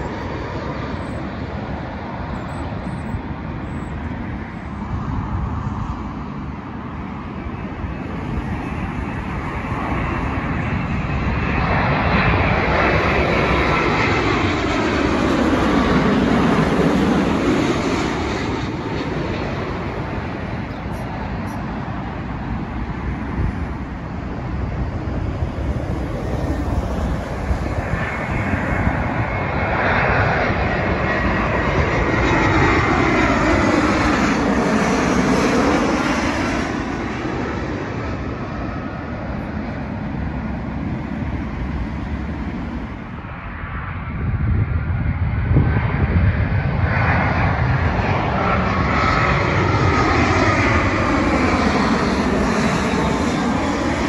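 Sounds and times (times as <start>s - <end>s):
airliner approaching: 0.0s - 54.0s
jet airliner passing overhead: 0.0s - 54.0s.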